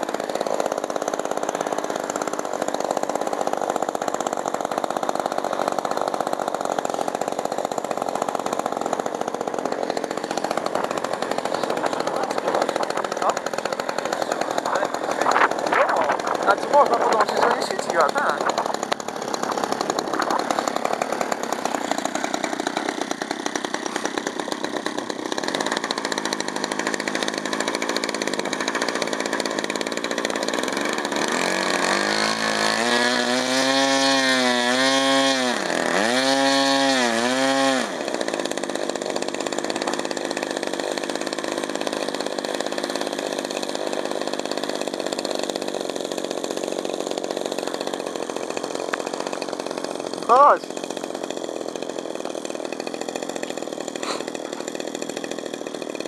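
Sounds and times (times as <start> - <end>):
model airplane engine running: 0.0 - 33.0, 34.4 - 56.0.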